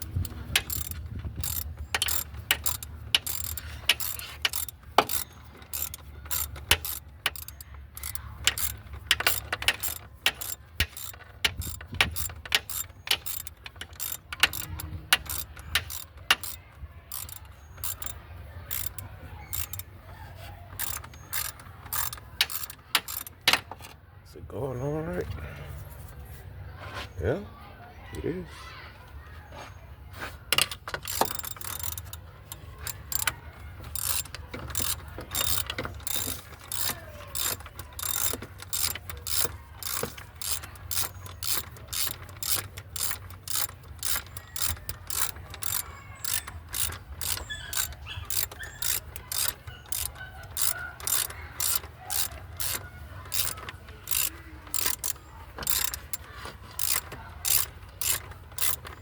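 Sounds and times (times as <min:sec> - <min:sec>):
ratchet wrench clicking: 0:00.0 - 0:24.0, 0:30.5 - 0:59.0.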